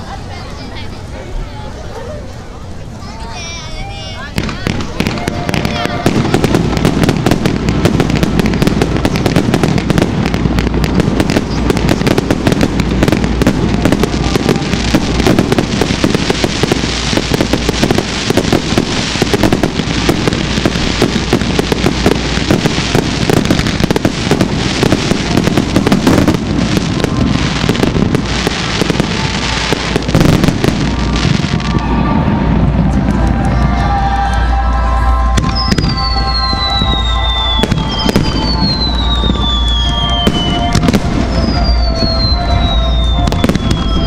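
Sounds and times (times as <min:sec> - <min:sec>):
fireworks barrage: 0:02.6 - 0:44.0.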